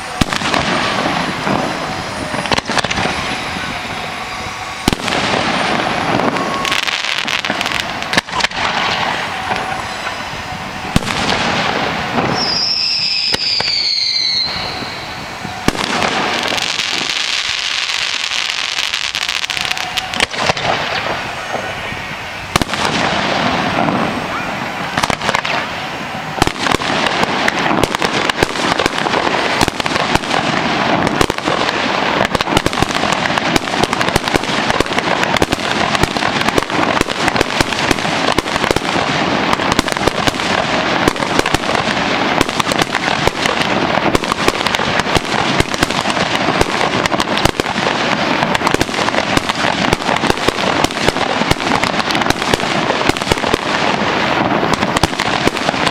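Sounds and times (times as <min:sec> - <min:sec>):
crackling fireworks pops: 0:00.0 - 0:55.9
fireworks bursting: 0:00.0 - 0:55.9
fireworks rising with hiss: 0:00.0 - 0:55.9.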